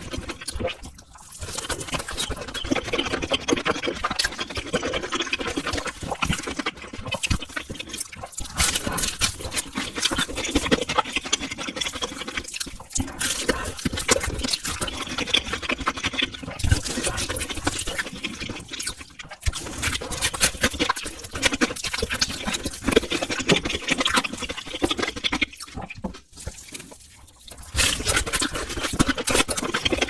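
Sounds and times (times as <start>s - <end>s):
person chewing and slurping: 0.0s - 30.0s.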